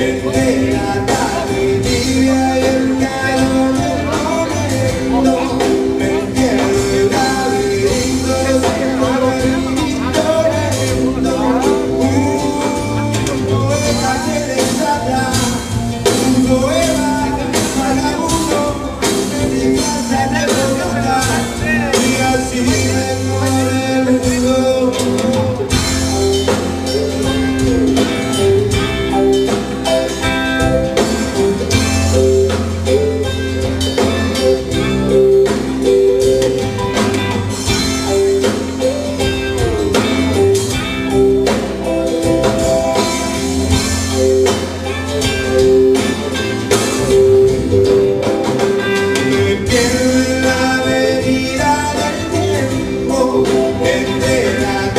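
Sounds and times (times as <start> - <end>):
drums: 0.0 - 54.9
guitars: 0.0 - 54.9
rock band playing live: 0.0 - 54.9.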